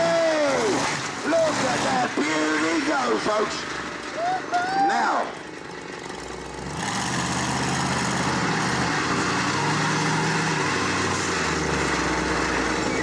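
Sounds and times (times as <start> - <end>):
monster truck engine running rough: 0.0 - 13.0.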